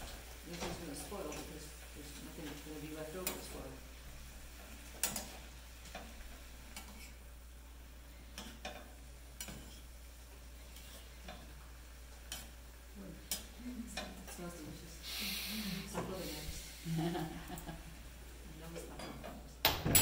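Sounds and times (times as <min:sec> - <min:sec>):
faint frying sizzle: 0:00.0 - 0:19.7.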